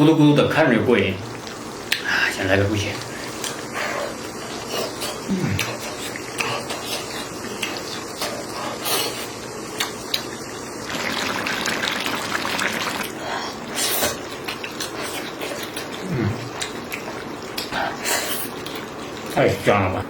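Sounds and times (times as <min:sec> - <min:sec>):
stew bubbling in a pot: 0:02.9 - 0:19.2.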